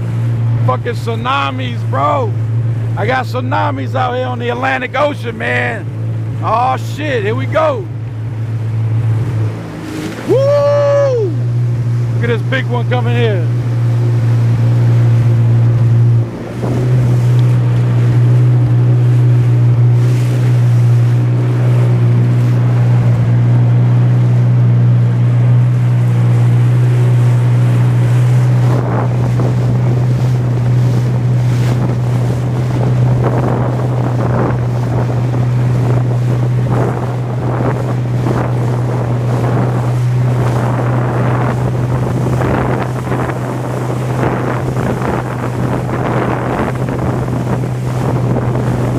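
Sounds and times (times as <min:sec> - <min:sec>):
jet ski engine droning: 0:00.0 - 0:48.9
splashing water: 0:00.0 - 0:48.9
rushing wind: 0:01.3 - 0:48.9.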